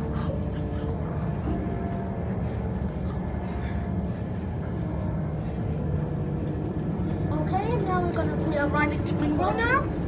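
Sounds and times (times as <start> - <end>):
train rumbling inside carriage: 0.0 - 10.0.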